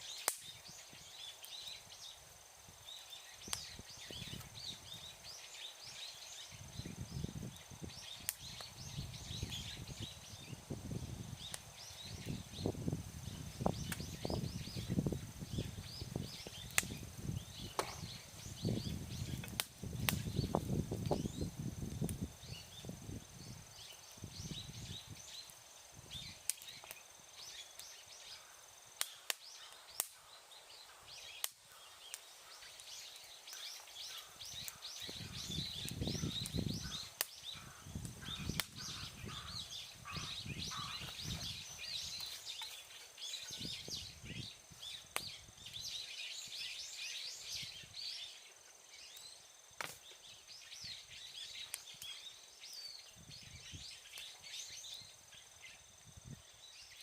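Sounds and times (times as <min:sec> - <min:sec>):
campfire crackling and popping: 0:00.0 - 0:48.2, 0:49.0 - 0:55.0
birds chirping: 0:00.0 - 0:55.9.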